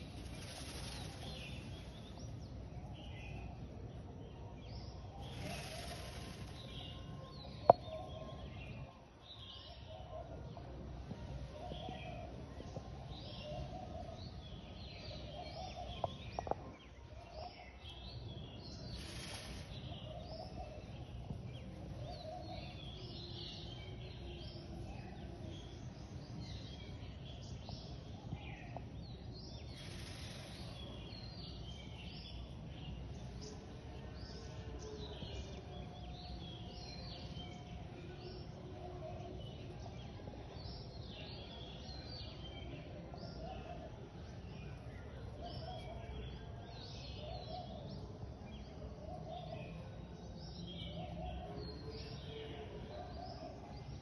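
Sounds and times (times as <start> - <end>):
birds chirping and calling: 0.0 - 3.7, 4.7 - 8.8, 13.0 - 54.0.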